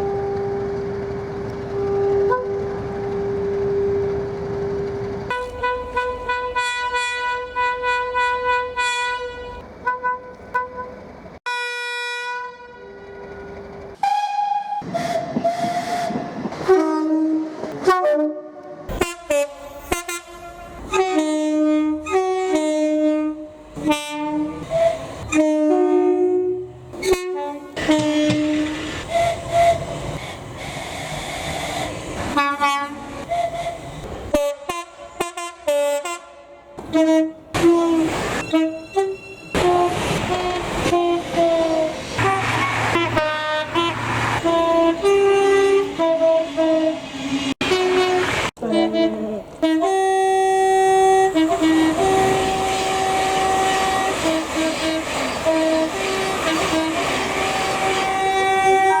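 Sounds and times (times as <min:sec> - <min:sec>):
train horn blasts: 0:00.0 - 0:00.8, 0:01.6 - 0:04.2, 0:04.8 - 0:29.9, 0:32.2 - 0:59.0
passing train running noise: 0:00.0 - 0:59.0.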